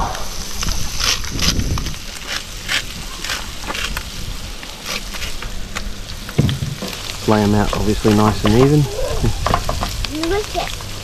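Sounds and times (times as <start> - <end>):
fish sizzling in butter in a pan: 0.9 - 11.0.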